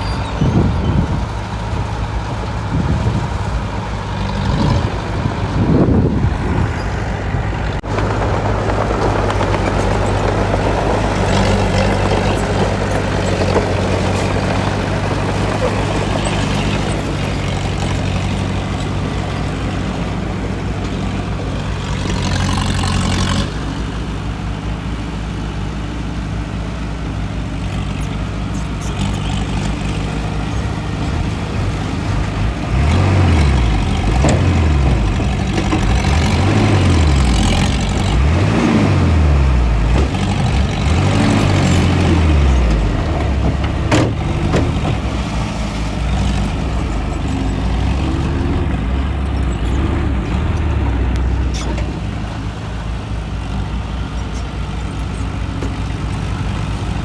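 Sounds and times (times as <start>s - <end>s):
heavy diesel machinery engine revving: 0.0s - 57.0s.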